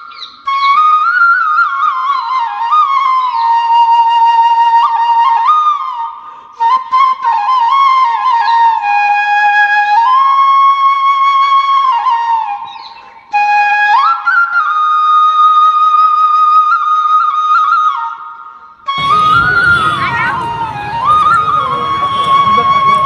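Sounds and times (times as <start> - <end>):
solo flute slow melody: 0.3 - 23.0.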